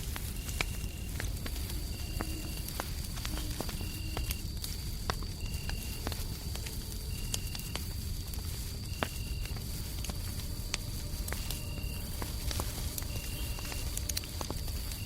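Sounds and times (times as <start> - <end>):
crickets trilling: 0.0 - 15.0
fireplace crackling and popping: 0.0 - 15.0
low rumble of white noise: 0.0 - 15.0.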